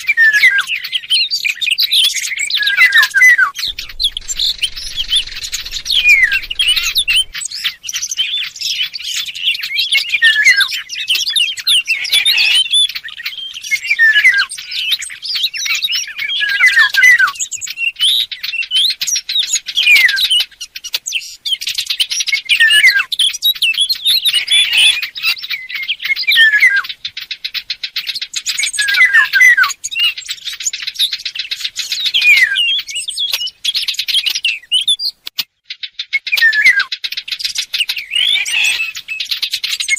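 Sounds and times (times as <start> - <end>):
recorded birdsong chirping and warbling: 0.0 - 39.9.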